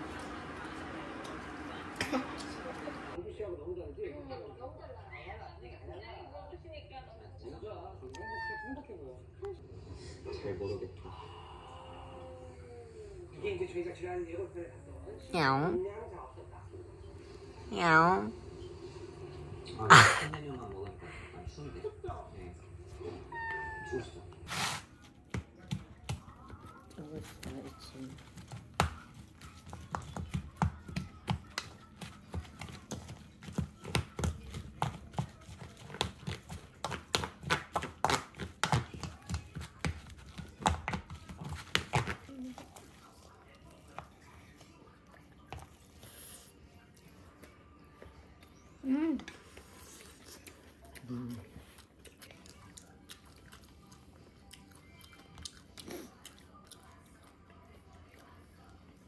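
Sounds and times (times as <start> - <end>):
quiet background music: 0.0 - 59.0.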